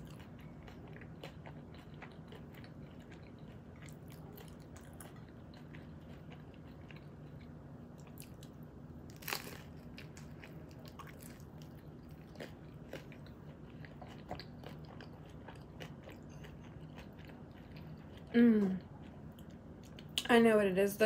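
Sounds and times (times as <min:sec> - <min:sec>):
chewing with soft crunches: 0:00.0 - 0:20.3.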